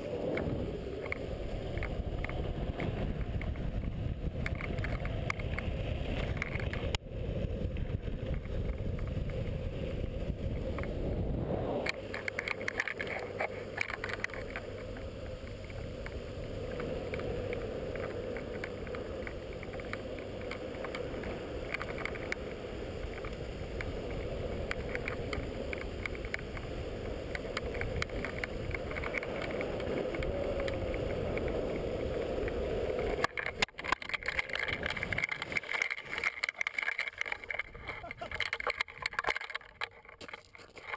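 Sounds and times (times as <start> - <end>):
wind buffeting microphone: 0.0 - 39.8
longboard wheels rolling on asphalt: 0.0 - 40.9
small clicks from road surface: 0.0 - 40.9.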